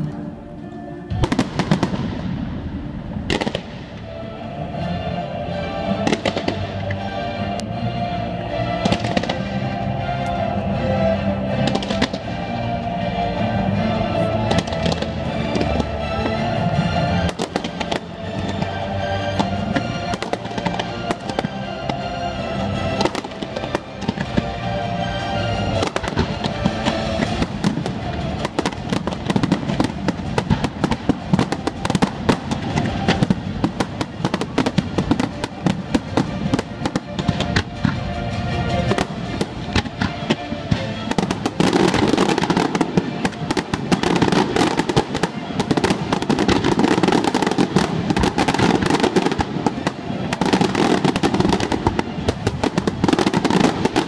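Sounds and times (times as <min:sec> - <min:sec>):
music: 0:00.0 - 0:54.0
fireworks bursts and crackles: 0:01.0 - 0:54.0.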